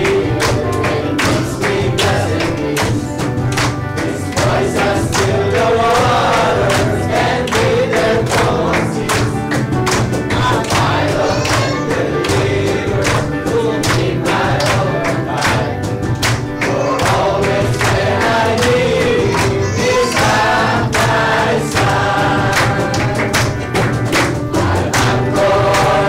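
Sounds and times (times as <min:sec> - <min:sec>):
congregation singing: 0:00.0 - 0:26.0
instrumental accompaniment: 0:00.0 - 0:26.0
people clapping: 0:00.0 - 0:26.0.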